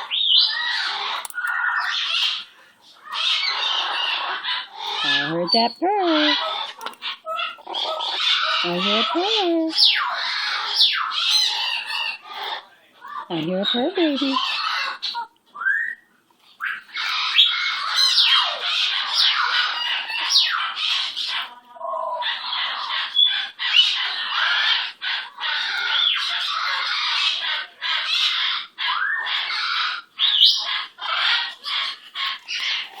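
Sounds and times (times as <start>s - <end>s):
bird squawking and chattering: 0.0s - 33.0s.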